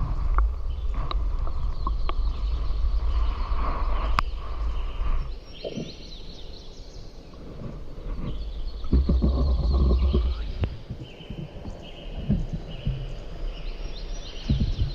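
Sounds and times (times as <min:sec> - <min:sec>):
wind buffeting microphone: 0:00.0 - 0:14.9
faint bird chirps: 0:00.6 - 0:14.9.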